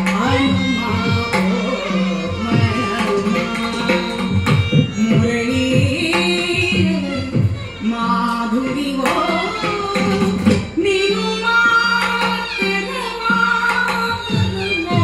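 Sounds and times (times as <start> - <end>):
violin: 0.0 - 15.0
woman singing: 0.0 - 15.0.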